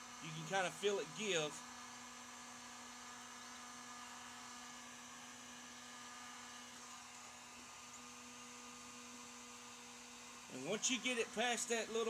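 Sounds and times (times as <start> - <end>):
heat gun running: 0.0 - 12.0.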